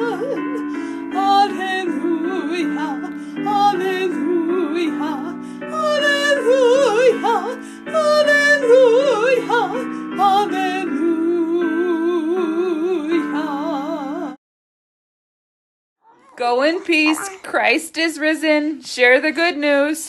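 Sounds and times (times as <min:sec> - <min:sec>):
woman singing a hymn: 0:00.0 - 0:14.4, 0:16.4 - 0:20.0.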